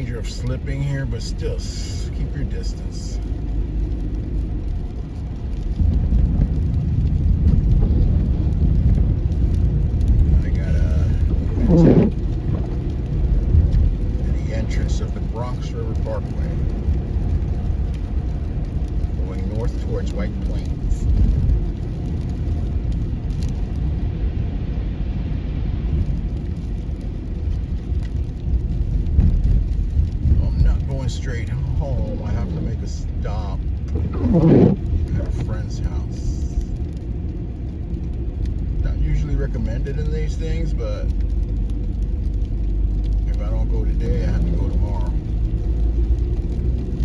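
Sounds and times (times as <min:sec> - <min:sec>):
engine and tyre rumble inside car: 0:00.0 - 0:47.0.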